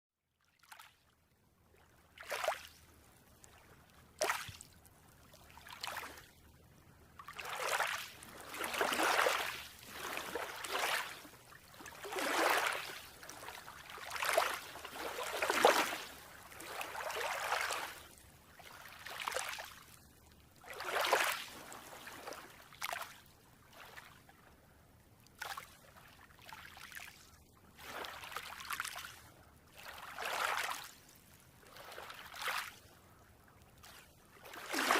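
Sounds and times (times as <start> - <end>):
small waves washing onto beach: 1.8 - 24.4, 25.2 - 34.9.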